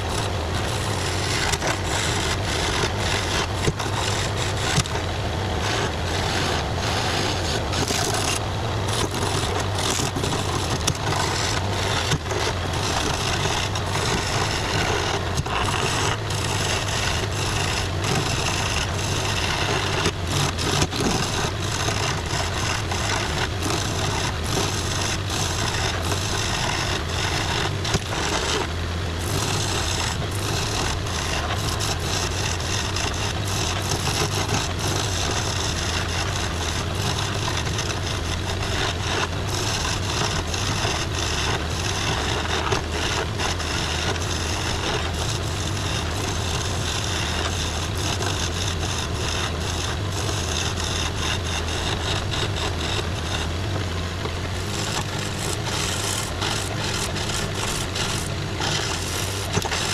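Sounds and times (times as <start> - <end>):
chisel scraping spinning wood: 0.0 - 59.9
wood lathe motor hum: 0.0 - 59.9.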